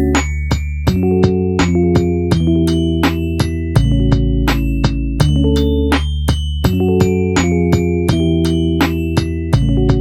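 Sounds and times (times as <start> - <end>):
bright mallet melody over chords: 0.0 - 10.0.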